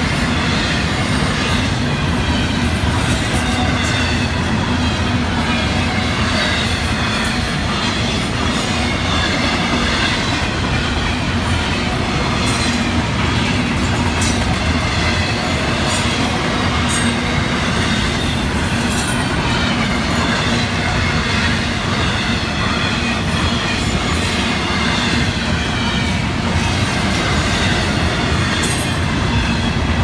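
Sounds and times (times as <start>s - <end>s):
steel wheels rumbling on rail: 0.0s - 30.0s.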